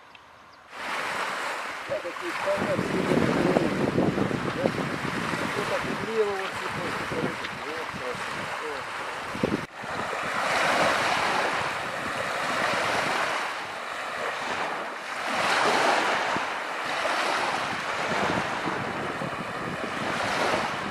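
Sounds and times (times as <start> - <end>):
small waves washing onto shore: 0.7 - 20.9
wind buffeting microphone: 0.7 - 20.9.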